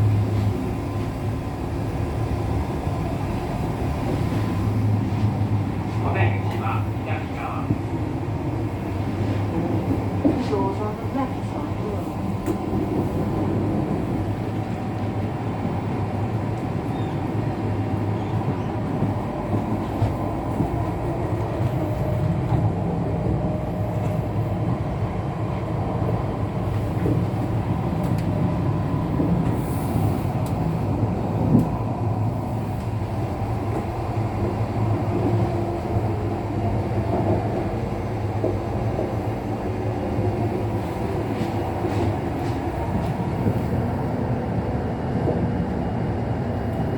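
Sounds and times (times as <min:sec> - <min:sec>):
train rumble of wheels and air: 0:00.0 - 0:46.9.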